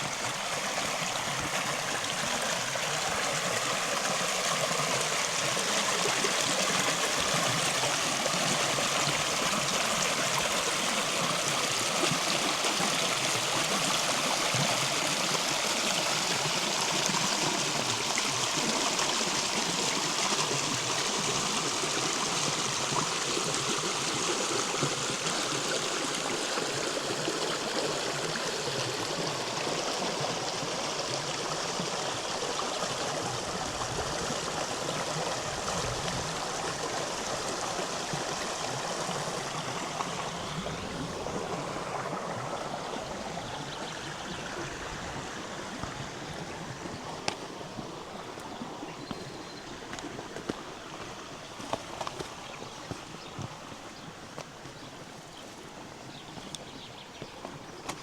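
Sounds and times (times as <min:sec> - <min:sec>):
river running over rocks: 0:00.0 - 0:58.0.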